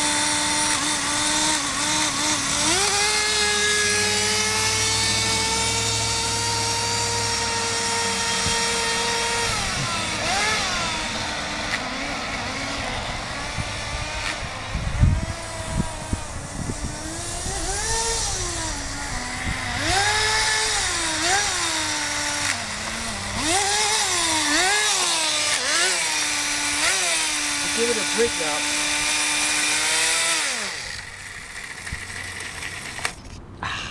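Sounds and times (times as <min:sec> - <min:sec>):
model nitro engine revving: 0:00.0 - 0:33.4.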